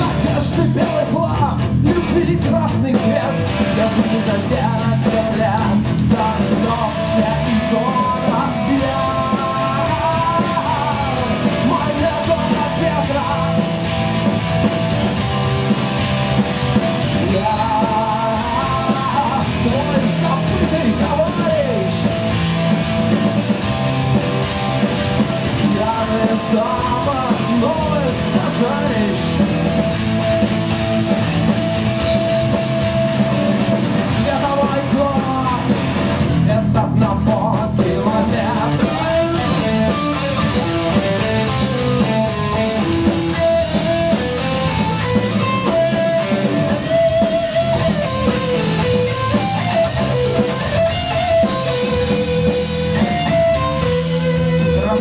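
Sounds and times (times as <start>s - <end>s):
bass guitar: 0.0s - 55.0s
drums: 0.0s - 55.0s
electric guitar: 0.0s - 55.0s
wavering lead guitar line: 0.0s - 55.0s.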